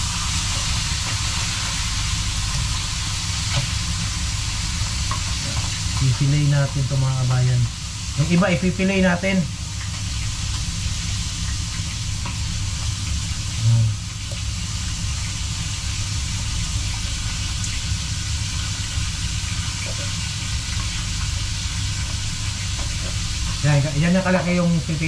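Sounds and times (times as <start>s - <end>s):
background hiss and hum: 0.0s - 25.0s.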